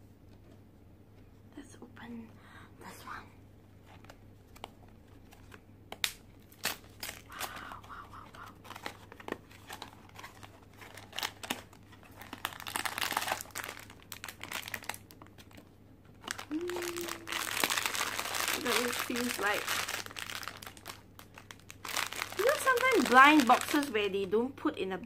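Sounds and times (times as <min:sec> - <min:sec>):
plastic wrap crinkling: 0:03.9 - 0:24.4.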